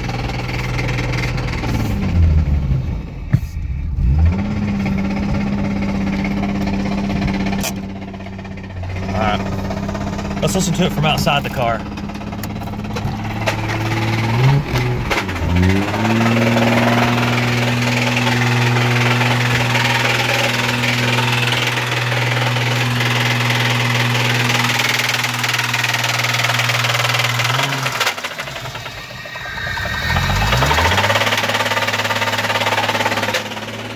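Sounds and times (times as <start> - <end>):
engine running with a knock: 5.1 - 33.9.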